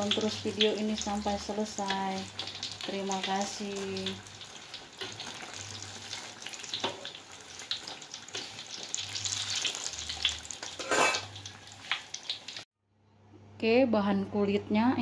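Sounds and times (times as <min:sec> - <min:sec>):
deep-frying oil sizzling: 0:00.0 - 0:12.7.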